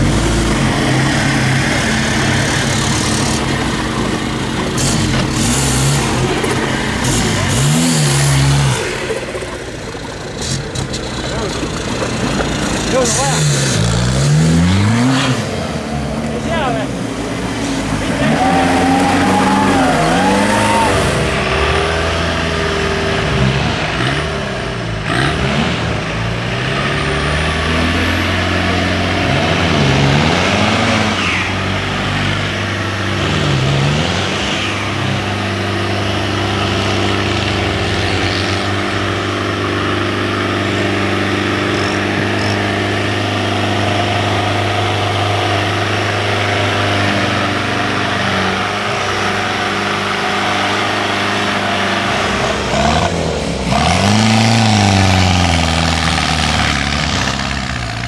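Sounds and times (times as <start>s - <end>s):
off-road vehicle engine revving: 0.0s - 58.0s.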